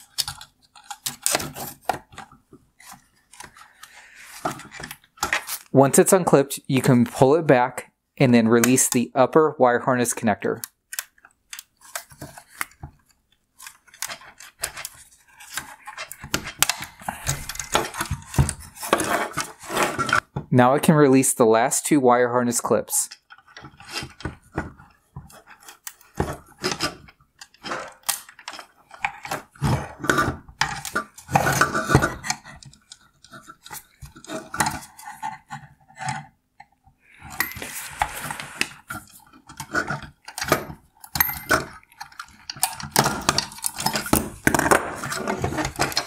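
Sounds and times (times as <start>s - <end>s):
clicks and rattles of parts: 0.0s - 5.7s, 10.6s - 20.4s, 23.1s - 46.0s.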